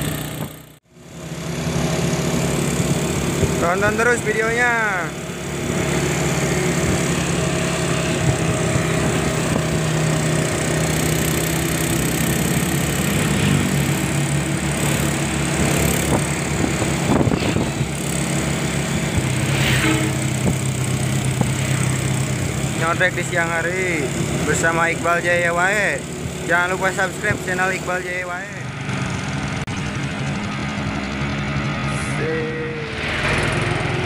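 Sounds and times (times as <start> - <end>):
road and wind noise: 0.0 - 34.0
vehicle engine running: 0.0 - 34.0.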